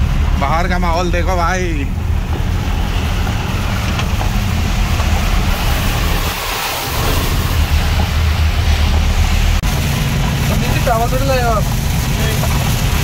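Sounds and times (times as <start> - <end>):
car engine and tyre rumble: 0.0 - 13.0
hiss of rain and water spray: 1.7 - 13.0.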